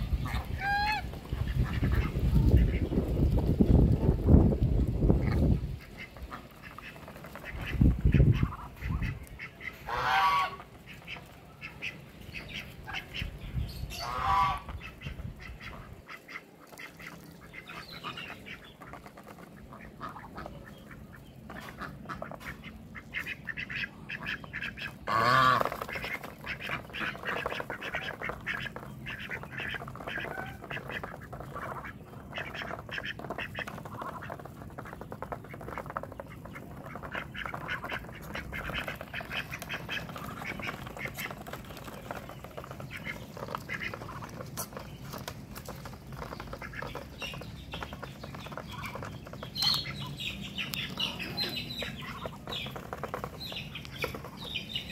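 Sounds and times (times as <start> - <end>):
geese and ducks calling: 0.0 - 3.3, 5.0 - 54.9
birds pecking and dabbling in water: 0.0 - 54.9.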